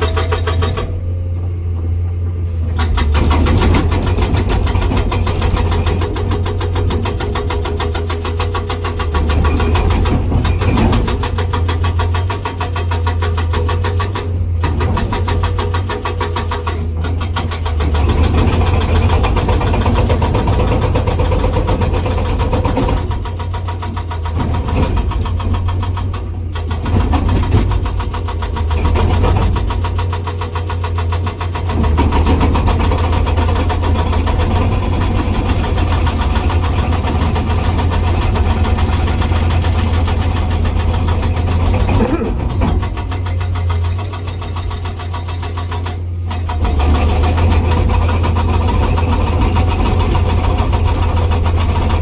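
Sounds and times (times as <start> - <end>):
excavator engine drone: 0.0 - 52.0
hydraulic breaker hammering rock: 0.0 - 52.0.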